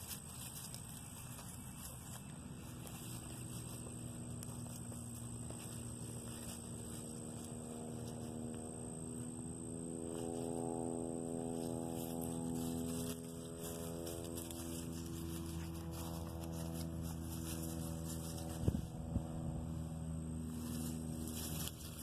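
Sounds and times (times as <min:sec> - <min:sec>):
animal rustling dry leaves: 0:00.0 - 0:22.0
steady droning hum: 0:00.0 - 0:22.0.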